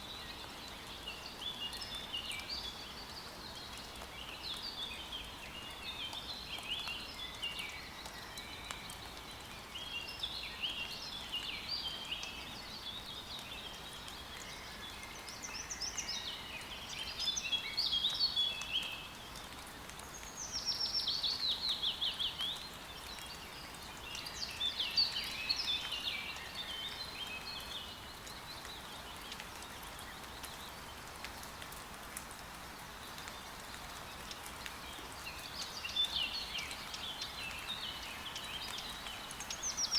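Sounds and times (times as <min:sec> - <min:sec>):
songbirds chirping and warbling: 0:00.0 - 0:32.0, 0:32.6 - 0:39.9
faint rain hiss: 0:00.0 - 0:39.9.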